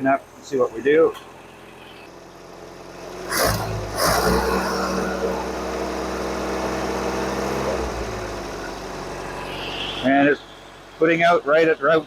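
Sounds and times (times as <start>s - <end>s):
car engine at raised revs: 0.0s - 12.0s.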